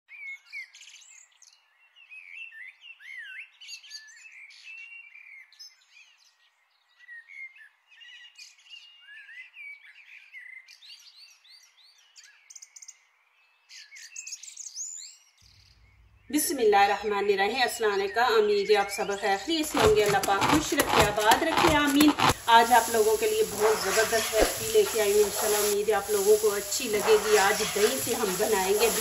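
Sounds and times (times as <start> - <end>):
songbirds singing and chirping: 0.1 - 20.1, 22.4 - 29.0.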